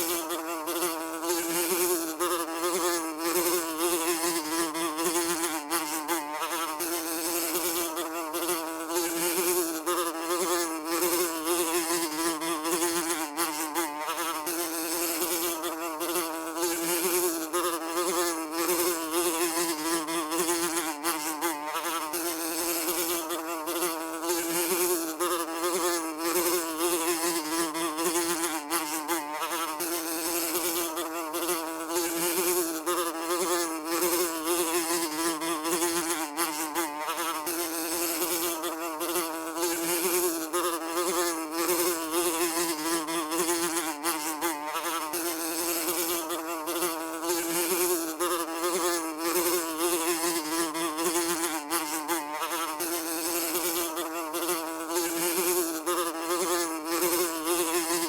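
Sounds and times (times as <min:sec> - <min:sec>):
housefly buzzing: 0:00.0 - 0:58.0.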